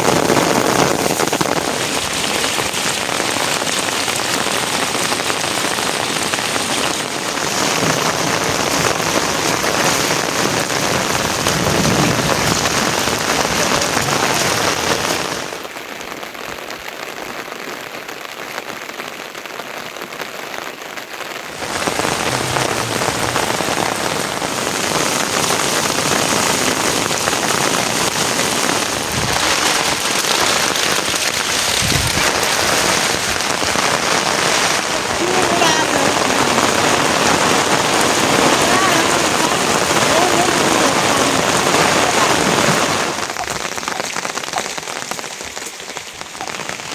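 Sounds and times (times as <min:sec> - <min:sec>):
rain pattering on surfaces: 0:00.0 - 0:46.9.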